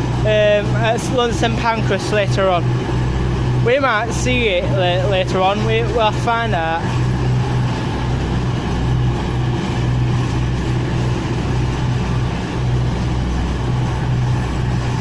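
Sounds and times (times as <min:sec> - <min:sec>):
train diesel engines humming: 0:00.0 - 0:15.0.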